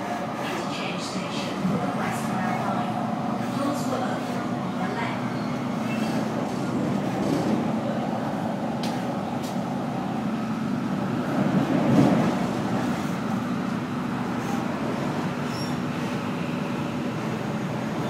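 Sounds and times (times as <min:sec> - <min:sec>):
train cabin rumble and hum: 0:00.0 - 0:18.0.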